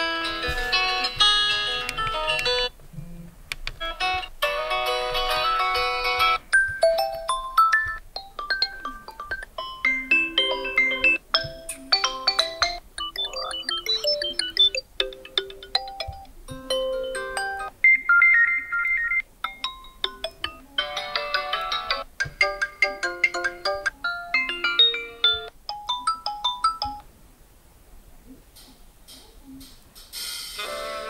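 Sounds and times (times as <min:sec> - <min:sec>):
phone ringtone melodies: 0:00.0 - 0:02.7, 0:03.8 - 0:27.0.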